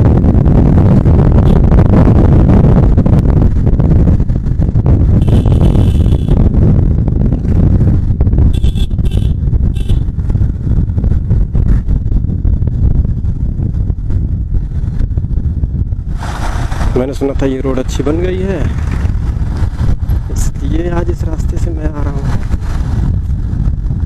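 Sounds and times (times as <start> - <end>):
motorcycle engine rumble: 0.0 - 24.0
wind buffeting microphone: 0.0 - 24.0.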